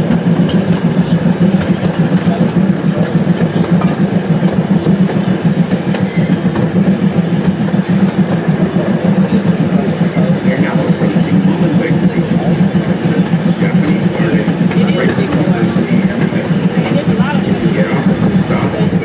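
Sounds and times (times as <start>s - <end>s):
train rumbling on track: 0.0s - 19.0s
wheels clicking on rails: 0.0s - 19.0s.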